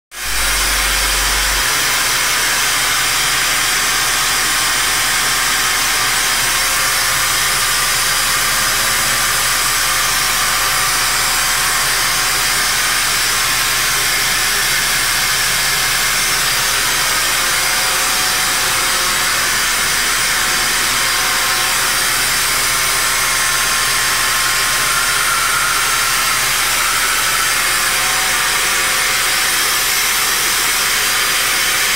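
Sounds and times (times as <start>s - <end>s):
vacuum motor hissing: 0.2s - 31.9s.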